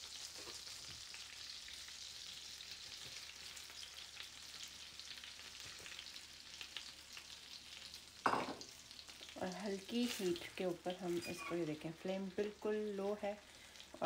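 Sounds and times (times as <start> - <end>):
butter sizzling in a frying pan: 0.0 - 14.0.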